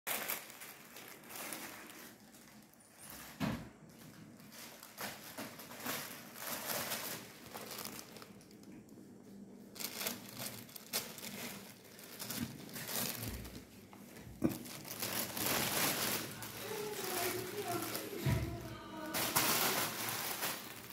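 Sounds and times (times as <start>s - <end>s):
plastic bag crinkling: 0.1s - 20.9s.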